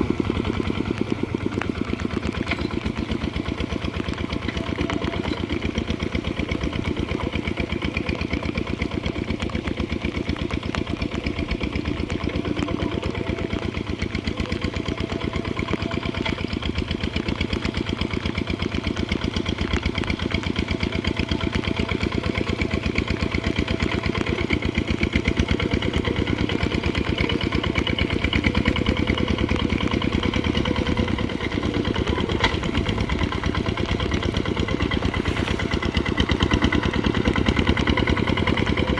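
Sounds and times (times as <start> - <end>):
diesel engine chugging: 0.0 - 38.9.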